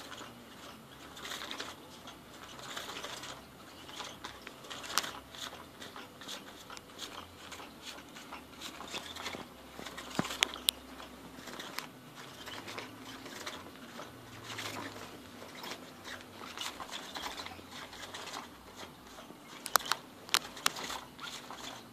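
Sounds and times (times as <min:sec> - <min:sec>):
nylon cover rustling: 0:00.0 - 0:21.9.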